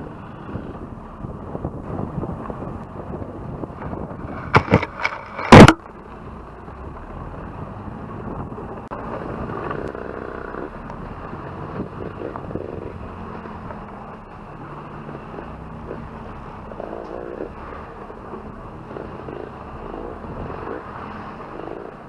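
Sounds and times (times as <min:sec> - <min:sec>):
vehicle rumble on dirt track: 0:00.0 - 0:22.0.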